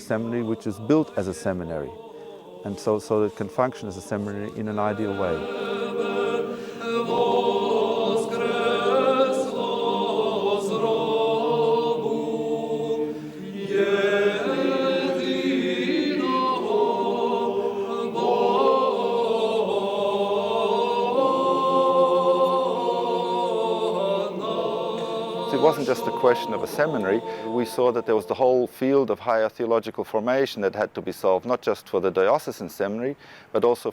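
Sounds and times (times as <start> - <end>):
choir singing chant a cappella: 0.0 - 28.8.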